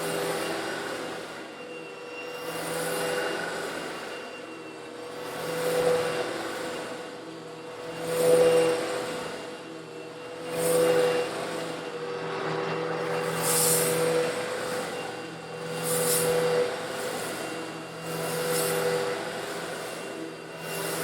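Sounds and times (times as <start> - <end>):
vacuum cleaner motor hum: 0.0 - 21.0.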